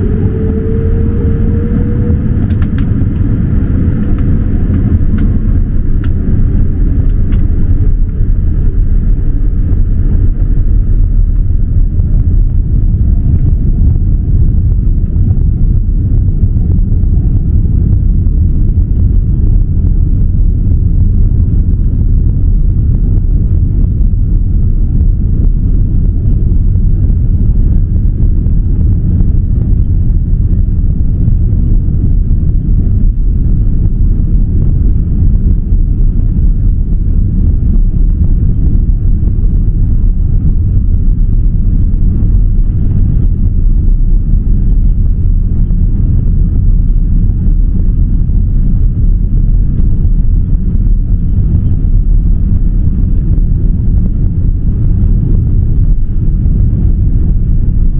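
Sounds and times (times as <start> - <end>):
high engine whine: 0.0 - 57.9
jet engines deep rumble: 0.0 - 57.9.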